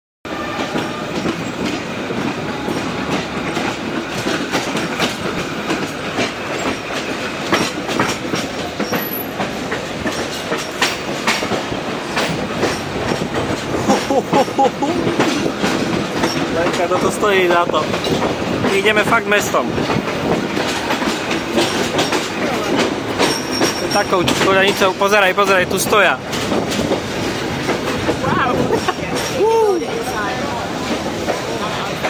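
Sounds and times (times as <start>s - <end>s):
rail joint clicks and knocks: 0.3s - 32.0s
rumble of train wheels on rails: 0.3s - 32.0s.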